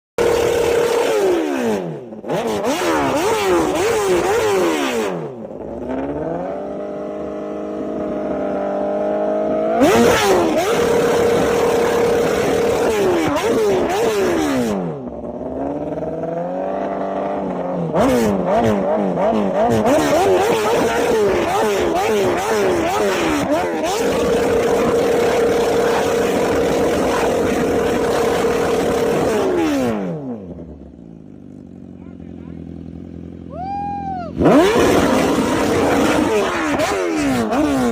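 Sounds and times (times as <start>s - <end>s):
motorcycle engine revving: 0.2s - 37.9s.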